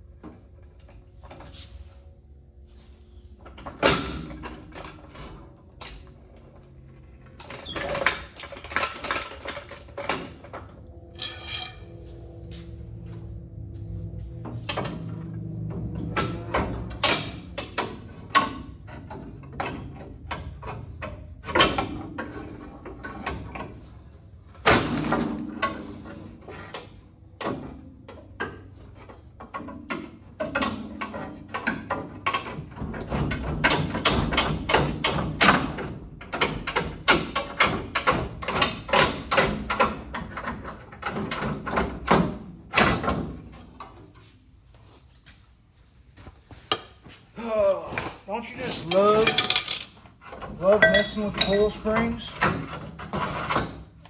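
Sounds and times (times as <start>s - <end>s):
metal clanks and knocks: 3.3s - 44.3s, 47.9s - 54.0s.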